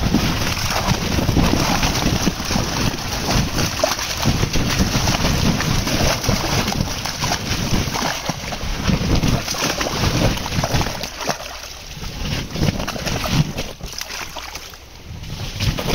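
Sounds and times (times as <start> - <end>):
fish thrashing and splashing: 0.0 - 15.9
water rushing from chute: 0.0 - 15.9.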